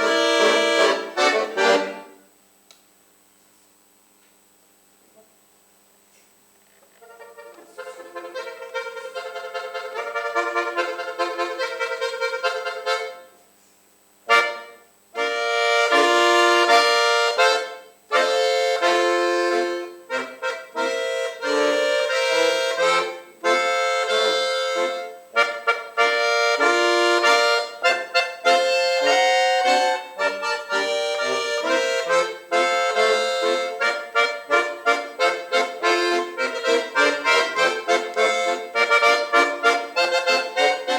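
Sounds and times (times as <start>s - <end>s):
solo accordion playing: 0.0s - 2.3s, 7.0s - 13.4s, 14.3s - 40.9s.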